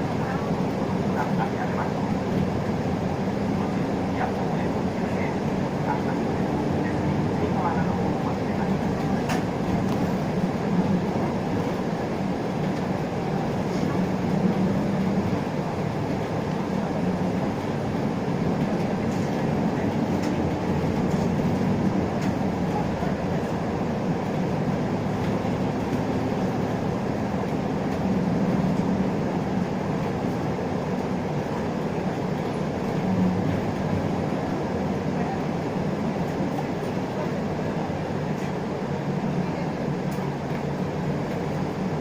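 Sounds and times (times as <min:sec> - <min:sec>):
bus engine drone: 0:00.0 - 0:42.0
road and tyre rumble: 0:00.0 - 0:42.0.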